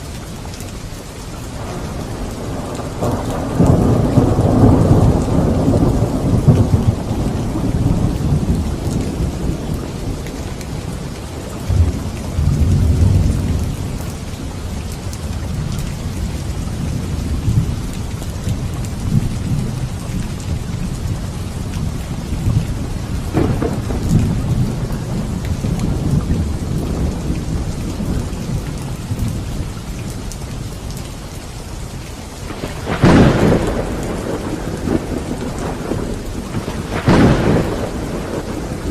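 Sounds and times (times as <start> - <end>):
steady rain: 0.0 - 38.9
rolling thunder: 1.6 - 14.2, 15.2 - 29.8, 32.5 - 38.9.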